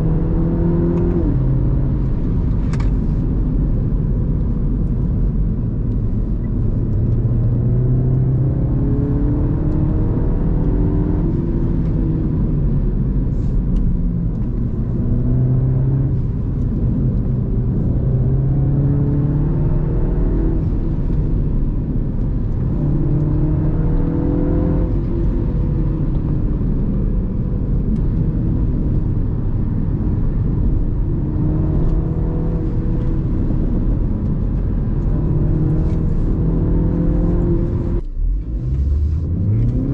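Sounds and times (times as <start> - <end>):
road noise: 0.0 - 39.9
car engine revving: 6.2 - 39.9.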